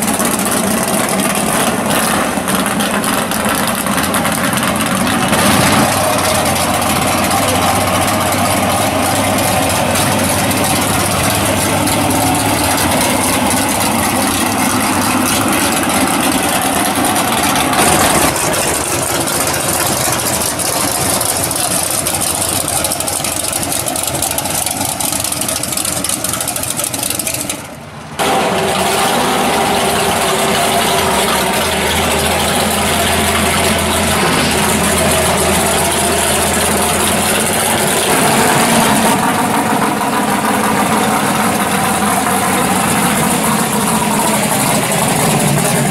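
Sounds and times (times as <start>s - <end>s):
drag race car engines idling: 0.0s - 45.9s.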